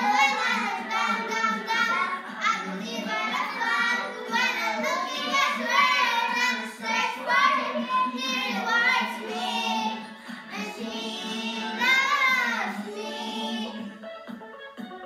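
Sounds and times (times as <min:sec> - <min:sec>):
child singing: 0:00.0 - 0:13.9
backing music: 0:00.0 - 0:15.0.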